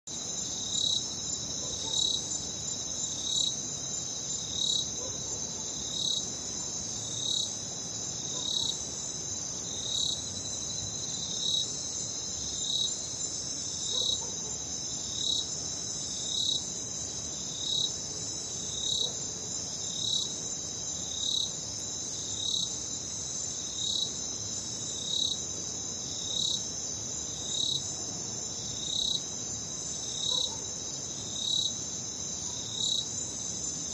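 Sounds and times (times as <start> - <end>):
crickets trilling: 0.1 - 33.9
lower cricket chirp: 0.1 - 33.9.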